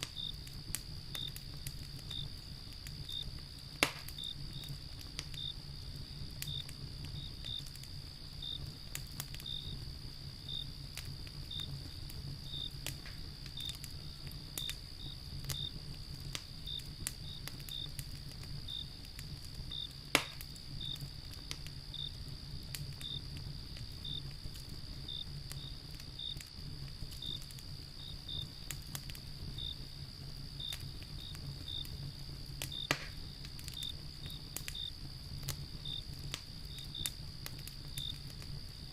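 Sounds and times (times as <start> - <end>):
crickets chirping: 0.0 - 38.9
fire popping sharply: 0.0 - 38.9
wood fire crackling: 0.0 - 38.9.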